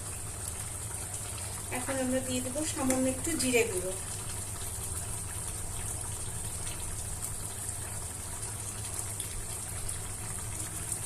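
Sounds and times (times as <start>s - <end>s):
curry bubbling in a pot: 0.0s - 11.0s.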